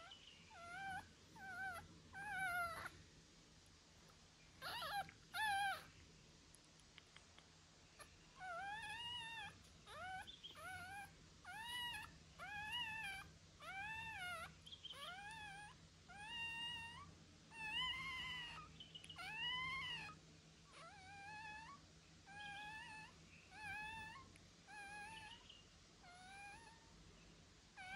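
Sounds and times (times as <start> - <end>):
puppy whimpering: 0.0 - 3.0, 4.6 - 5.9, 8.0 - 25.4, 26.0 - 26.9.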